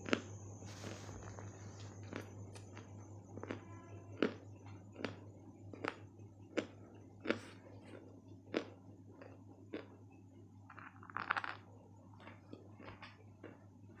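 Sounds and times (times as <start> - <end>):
crunching and chewing clay: 0.0 - 14.0.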